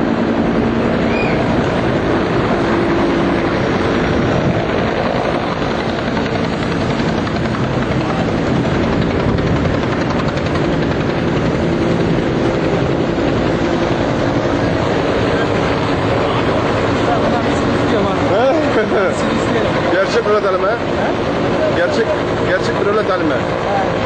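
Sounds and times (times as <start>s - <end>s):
helicopter rotor and engine drone: 0.0s - 24.0s.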